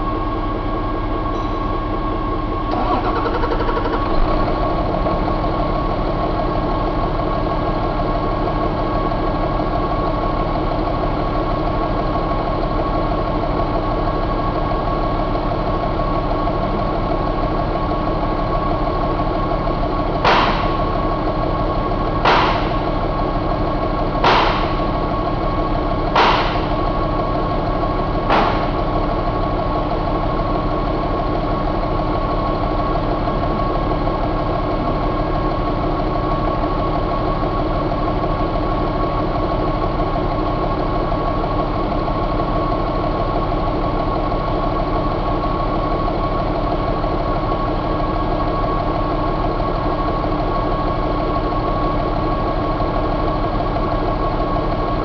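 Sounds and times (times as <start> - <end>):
diesel engine idling: 0.0 - 55.0
high engine whine: 0.0 - 55.0.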